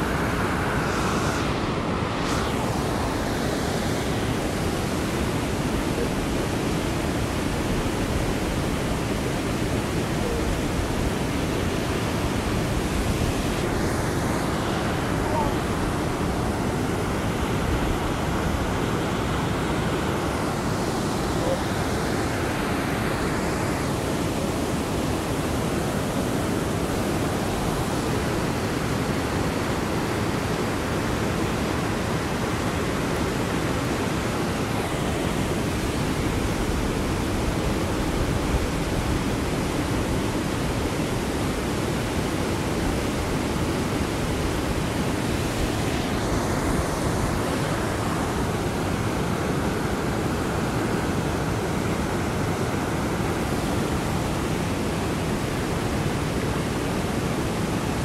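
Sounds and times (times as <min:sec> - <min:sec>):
river rapids rushing: 0:00.0 - 0:58.0.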